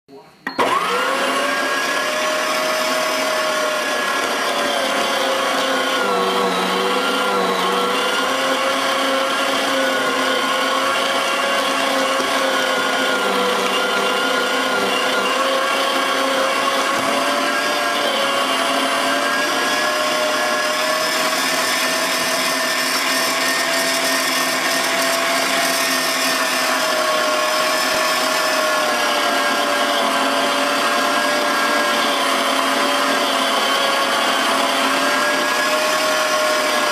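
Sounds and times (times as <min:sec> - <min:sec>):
electric meat grinder whining: 0:00.6 - 0:36.9.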